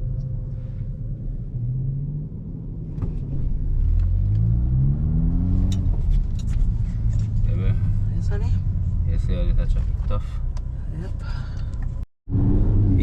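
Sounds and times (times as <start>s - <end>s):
car engine accelerating: 0.0s - 13.0s
road rumble: 0.0s - 13.0s.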